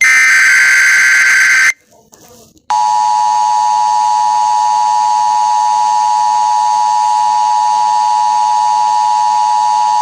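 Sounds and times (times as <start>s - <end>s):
steady two-tone alarm: 0.0s - 1.8s, 2.7s - 10.0s.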